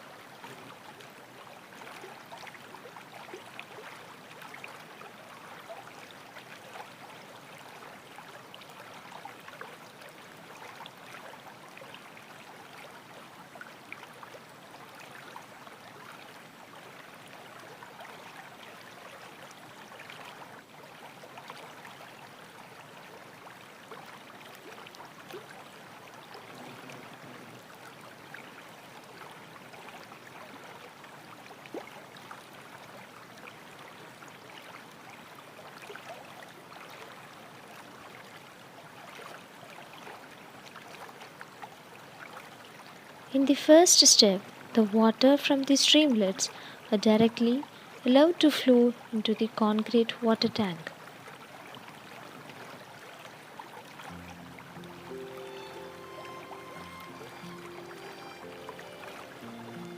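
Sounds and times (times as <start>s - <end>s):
faint water splashes: 0.0s - 59.9s
stream water rushing: 0.0s - 59.9s.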